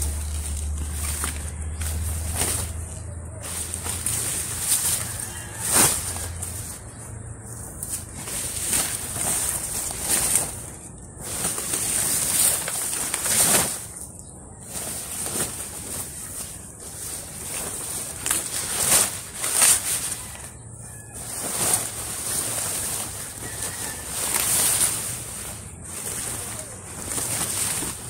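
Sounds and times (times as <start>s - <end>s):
large leaves rustling: 0.0s - 28.0s.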